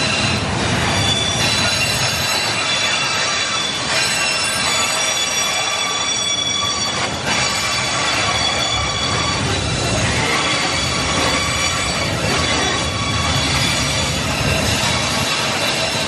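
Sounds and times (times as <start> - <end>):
high-pitched wheel squeal: 0.0 - 16.0
train wheels rumbling on rails: 0.0 - 16.0.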